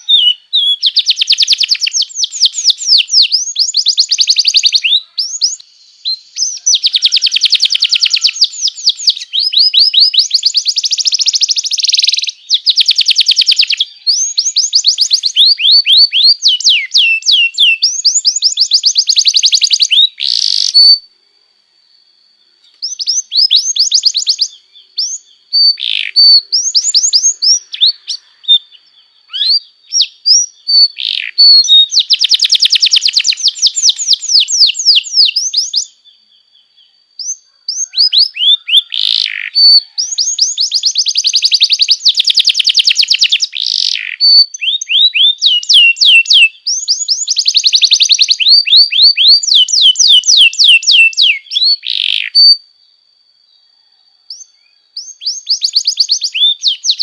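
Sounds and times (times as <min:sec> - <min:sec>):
canary singing trills: 0:00.0 - 0:21.1, 0:22.0 - 0:57.0.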